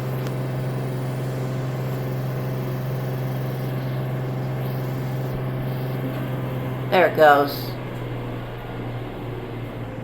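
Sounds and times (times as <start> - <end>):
washing machine spinning: 0.0 - 10.0.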